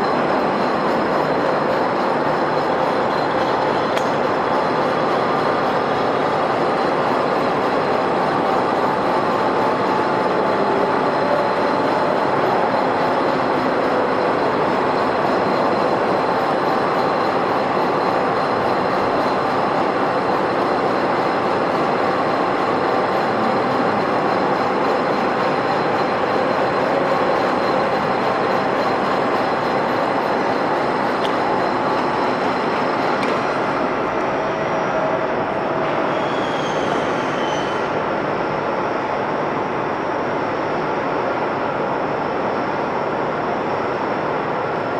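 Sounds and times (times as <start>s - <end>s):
metal lathe running: 0.0s - 36.2s.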